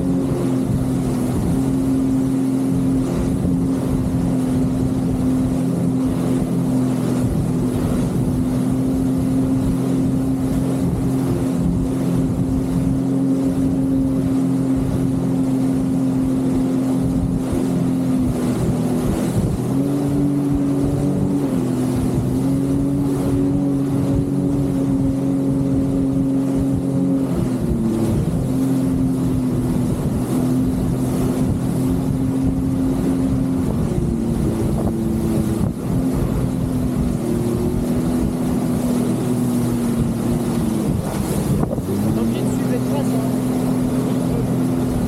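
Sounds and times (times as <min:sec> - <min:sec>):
jet ski engine running: 0:00.0 - 0:45.0.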